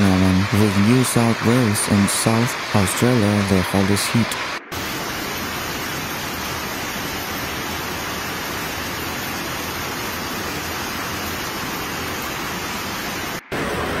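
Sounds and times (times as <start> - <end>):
heavy hail and rain falling: 0.0 - 14.0.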